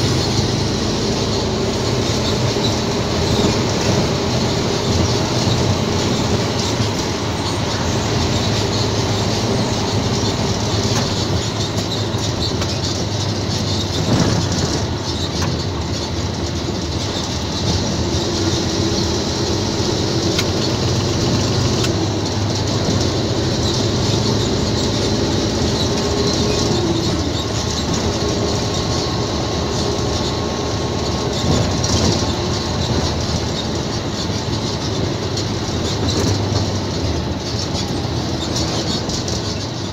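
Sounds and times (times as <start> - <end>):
diesel engine drone: 0.0 - 39.9
cab knocks and rattles: 1.3 - 39.9.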